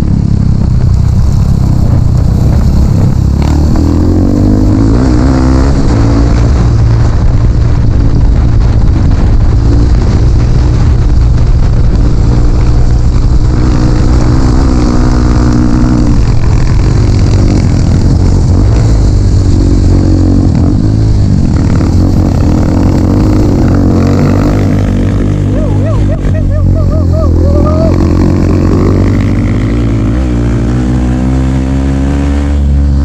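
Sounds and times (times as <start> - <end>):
dirt bike engine revving: 1.8 - 7.2, 8.3 - 33.0.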